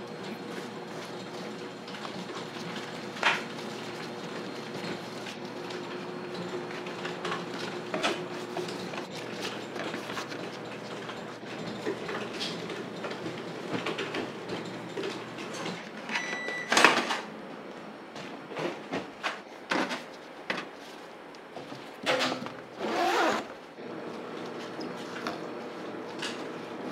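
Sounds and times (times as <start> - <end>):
low hum of kitchen equipment: 0.0 - 26.9.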